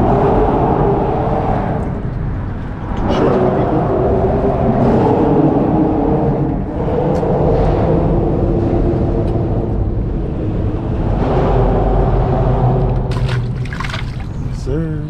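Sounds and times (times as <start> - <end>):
mechanical rumble: 0.0 - 15.0.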